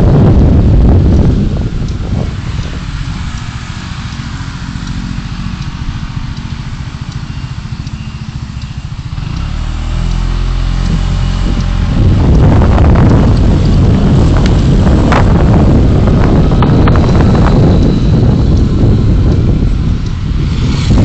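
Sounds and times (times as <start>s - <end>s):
car engine throbbing: 0.0s - 21.0s
road noise: 0.0s - 21.0s.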